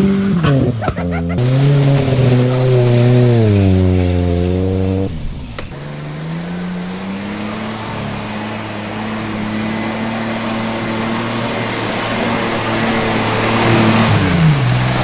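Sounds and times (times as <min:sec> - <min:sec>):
car engine running: 0:00.0 - 0:15.0
road and wind noise: 0:00.0 - 0:15.0.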